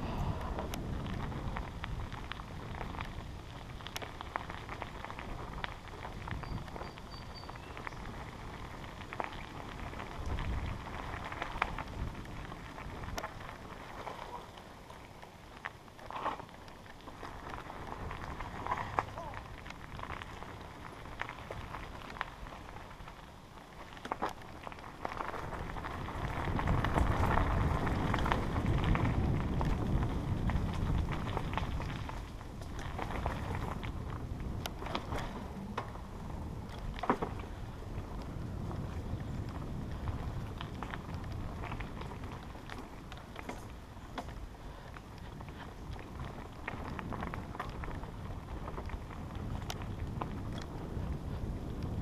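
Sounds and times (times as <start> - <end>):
bicycle tyres crunching on dirt: 0.0 - 52.0
ticks and rattles of bike: 0.0 - 52.0
wind rumble on microphone: 0.0 - 52.0.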